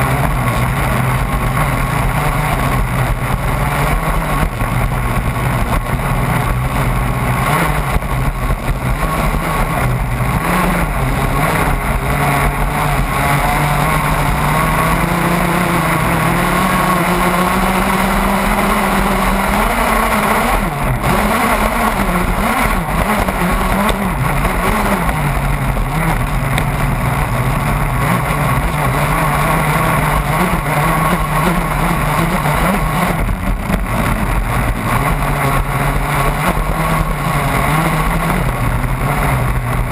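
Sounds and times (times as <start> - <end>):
model boat motor running: 0.0 - 39.9
water rushing along hull: 0.0 - 39.9.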